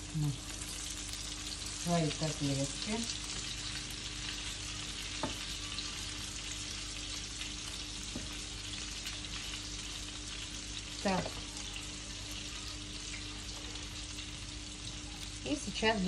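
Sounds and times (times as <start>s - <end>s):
patties sizzling in oil: 0.0s - 16.0s.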